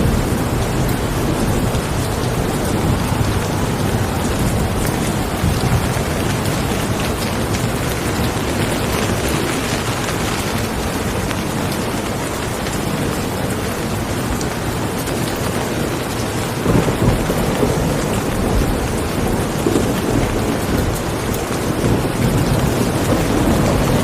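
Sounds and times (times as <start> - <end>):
low rumble of thunder: 0.0 - 24.0
steady rain falling: 0.0 - 24.0.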